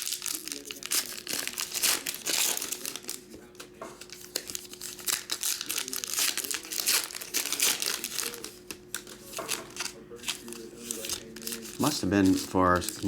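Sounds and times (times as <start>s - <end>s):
card pack wrappers crinkling: 0.0s - 13.0s.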